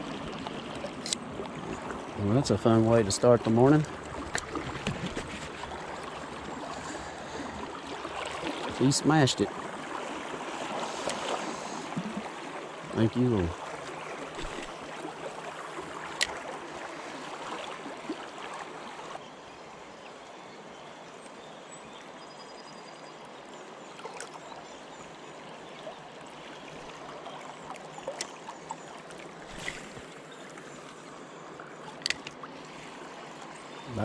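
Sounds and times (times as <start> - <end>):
river current flowing: 0.0 - 34.0.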